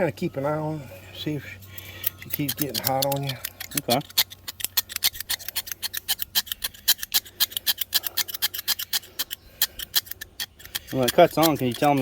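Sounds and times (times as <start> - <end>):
scraping on copper: 1.2 - 12.0.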